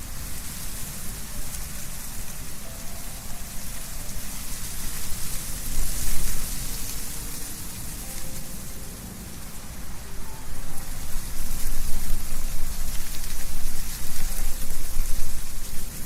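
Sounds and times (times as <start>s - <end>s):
leaves rustling: 0.0s - 16.0s
wind blowing through trees: 0.0s - 16.0s.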